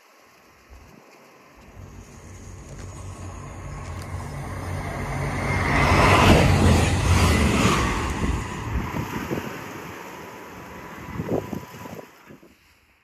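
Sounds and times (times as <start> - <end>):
train passing at speed: 1.4 - 12.4.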